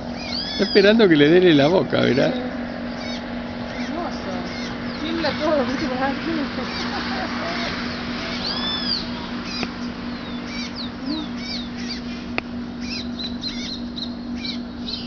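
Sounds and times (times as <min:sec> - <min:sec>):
fledgling bird begging chirps: 0:00.0 - 0:15.0
low hum: 0:00.0 - 0:15.0.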